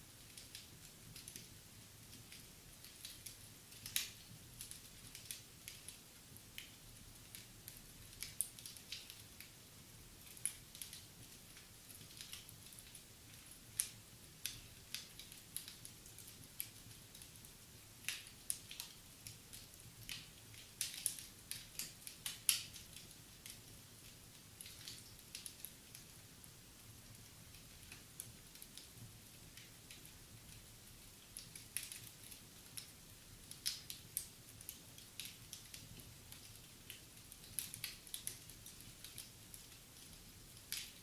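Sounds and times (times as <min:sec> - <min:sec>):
faint hiss: 0:00.0 - 0:41.0
wood fire crackling: 0:00.1 - 0:41.0.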